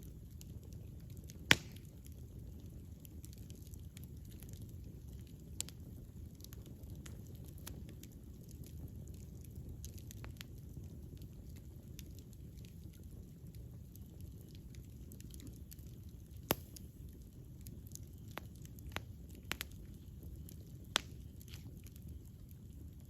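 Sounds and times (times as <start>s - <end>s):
campfire crackling and popping: 0.0s - 23.0s
low rumble of flames: 0.0s - 23.0s.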